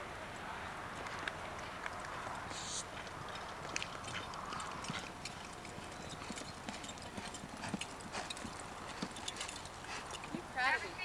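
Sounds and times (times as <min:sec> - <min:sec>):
horse hooves on dirt: 0:00.3 - 0:11.0.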